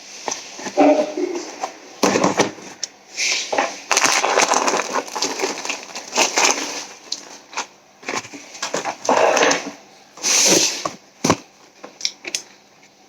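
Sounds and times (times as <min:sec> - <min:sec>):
packaging crinkling and rustling: 0:00.0 - 0:11.8.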